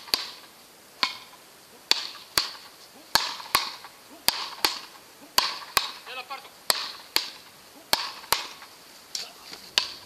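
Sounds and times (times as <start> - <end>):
paddles hitting a ball: 0.0 - 1.3, 1.9 - 6.1, 6.7 - 10.0.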